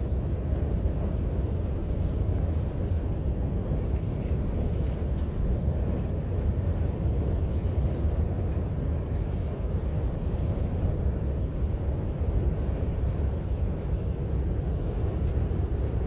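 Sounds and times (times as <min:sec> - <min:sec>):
freight train rumbling over bridge: 0:00.0 - 0:16.0.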